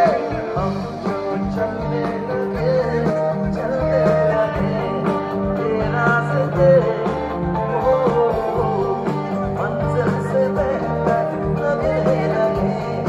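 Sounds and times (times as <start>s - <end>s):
live backing band: 0.0s - 13.0s
man singing: 0.0s - 13.0s.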